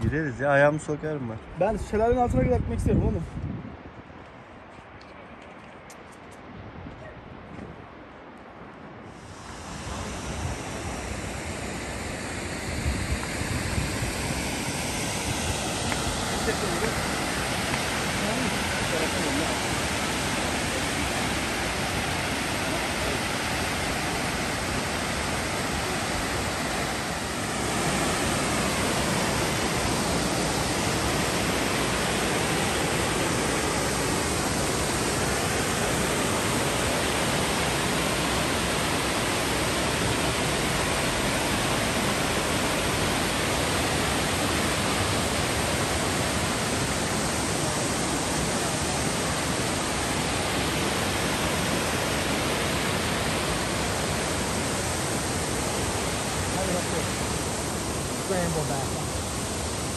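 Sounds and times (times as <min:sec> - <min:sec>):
waterfall rushing: 0:09.0 - 0:59.9.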